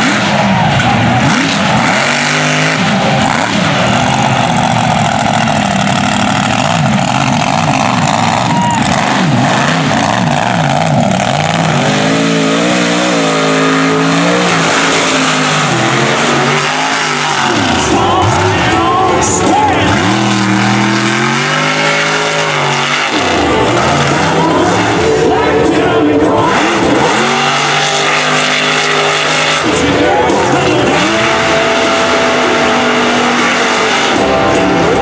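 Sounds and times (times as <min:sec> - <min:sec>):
truck engines revving hard: 0:00.0 - 0:35.0.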